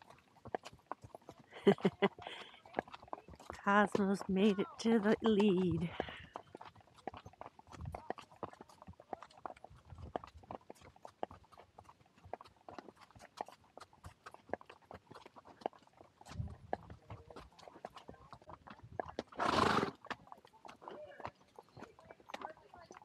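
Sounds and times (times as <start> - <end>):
horse hooves clopping: 0.0 - 23.0.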